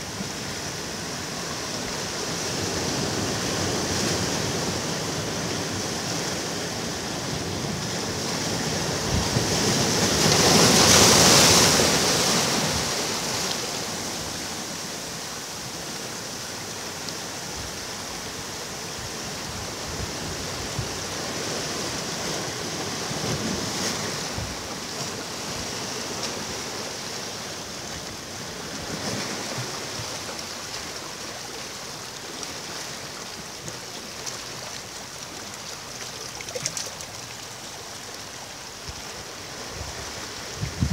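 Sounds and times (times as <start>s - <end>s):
sea waves breaking on a beach: 0.0s - 40.9s.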